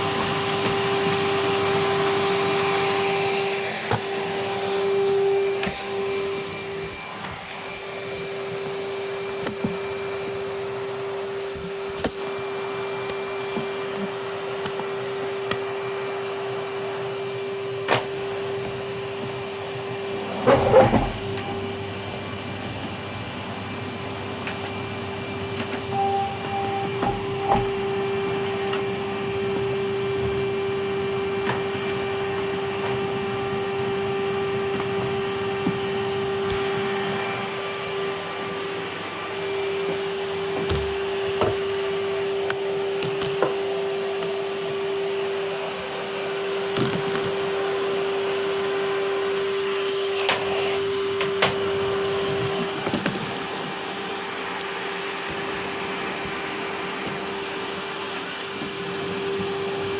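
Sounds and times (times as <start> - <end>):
vacuum cleaner humming: 0.0 - 59.9.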